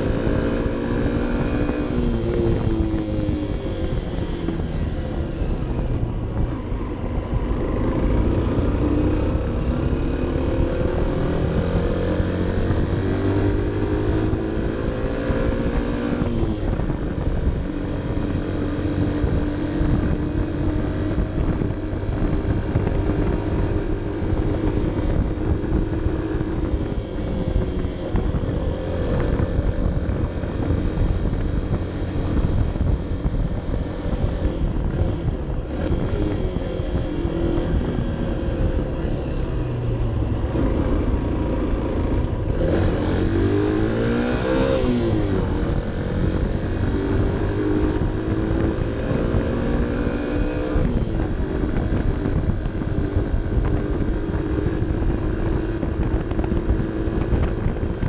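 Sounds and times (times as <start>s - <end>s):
motorcycle engine pulling uphill: 0.0s - 58.0s
wind rumble on microphone: 0.0s - 58.0s.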